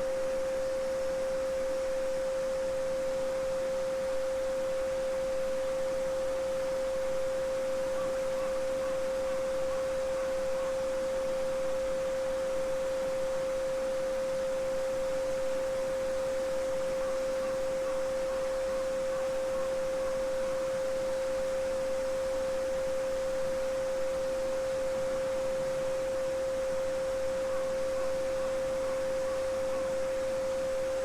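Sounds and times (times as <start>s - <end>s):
pure sine tone: 0.0s - 31.0s.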